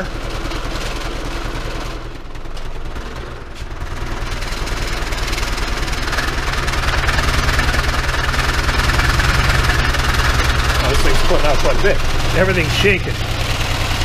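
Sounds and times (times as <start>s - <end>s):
objects rattling and buzzing: 0.0s - 14.0s.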